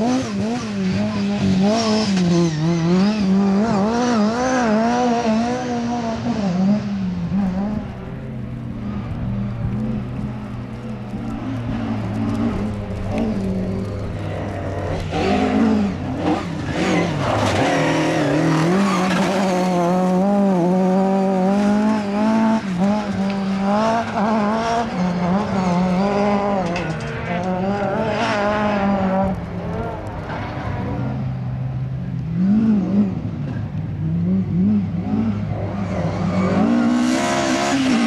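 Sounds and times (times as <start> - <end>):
rally car engine revving: 0.0 - 38.0.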